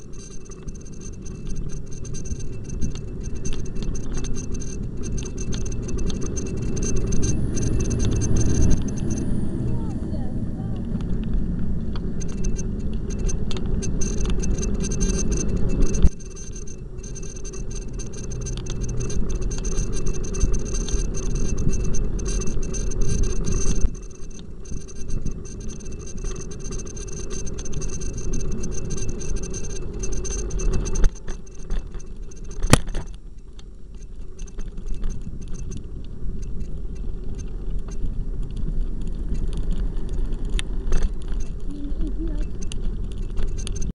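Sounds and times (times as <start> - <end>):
light rattles and clicks: 0.0 - 10.0, 10.6 - 43.9
city traffic: 0.0 - 32.2, 34.6 - 43.9
wind rumble on microphone: 0.0 - 43.9.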